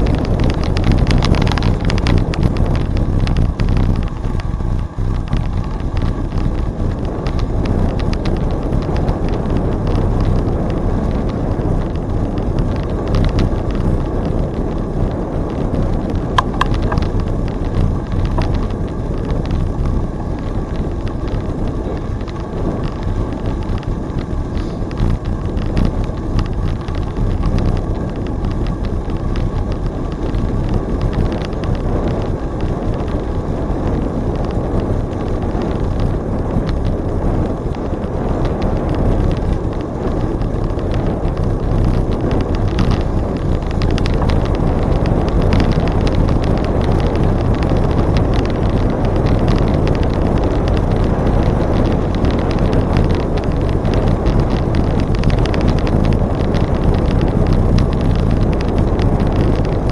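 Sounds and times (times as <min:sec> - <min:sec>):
bicycle tyre rumble: 0:00.0 - 0:59.9
wind buffeting microphone: 0:00.0 - 0:59.9.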